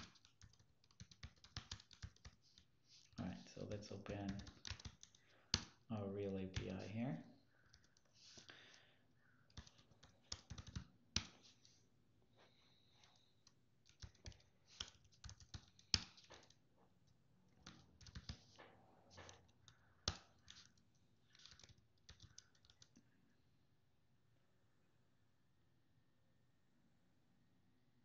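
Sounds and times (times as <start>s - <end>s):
faint keyboard typing: 0.0s - 11.8s, 12.4s - 23.2s.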